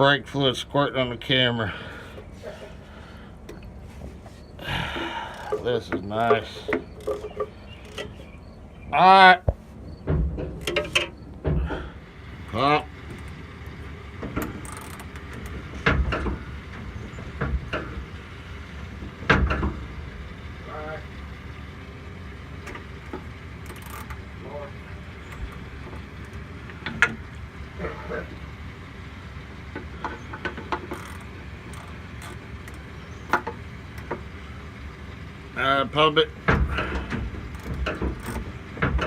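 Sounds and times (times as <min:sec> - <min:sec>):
low steady rumble: 0:00.0 - 0:39.0
brake fluid sputtering bursts: 0:01.6 - 0:08.8, 0:09.5 - 0:39.0.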